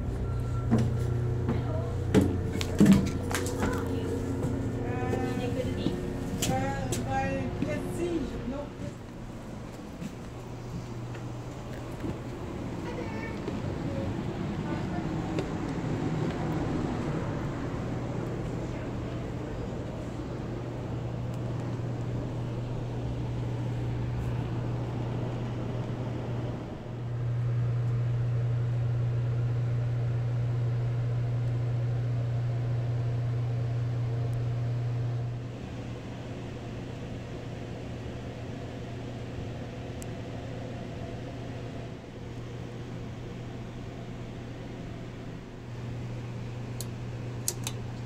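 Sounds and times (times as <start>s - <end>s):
rail car mechanical hum: 0.0s - 48.0s.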